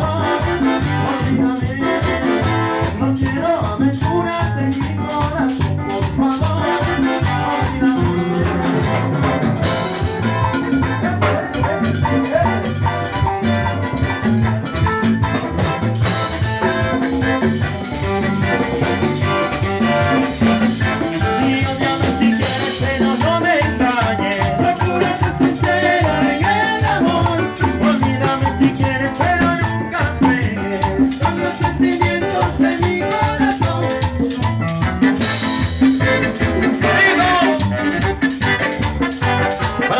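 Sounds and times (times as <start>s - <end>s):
drums: 0.0s - 39.9s
maracas: 0.0s - 39.9s
salsa orchestra playing: 0.0s - 39.9s.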